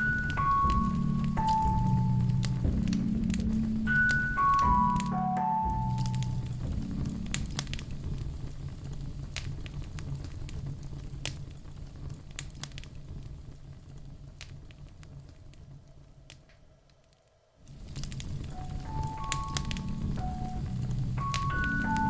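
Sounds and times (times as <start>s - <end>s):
logs crackling and popping: 0.0s - 22.0s
low rumble of flame: 0.0s - 22.0s.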